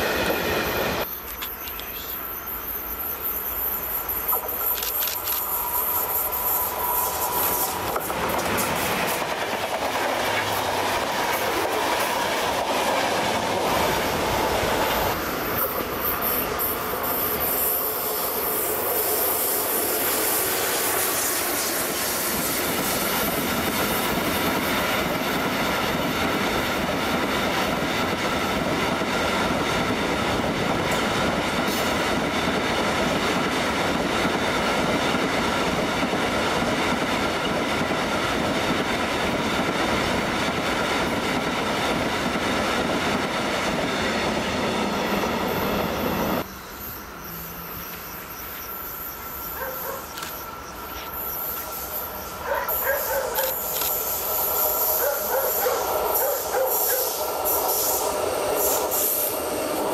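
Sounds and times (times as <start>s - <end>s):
train wheels rolling: 0.0s - 46.5s, 47.2s - 59.9s.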